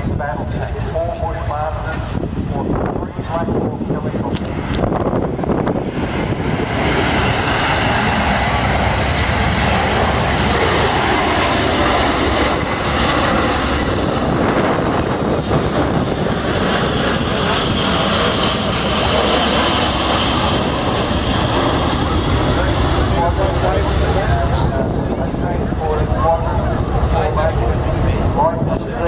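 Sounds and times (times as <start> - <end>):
jet aircraft flying low: 0.0 - 29.0.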